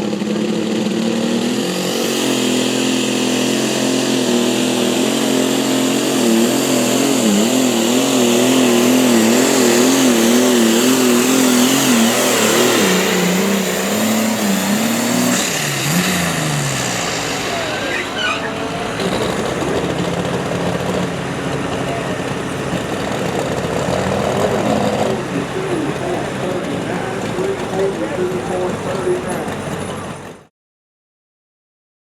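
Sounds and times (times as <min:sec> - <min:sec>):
engine running at high revs: 0:00.0 - 0:30.5.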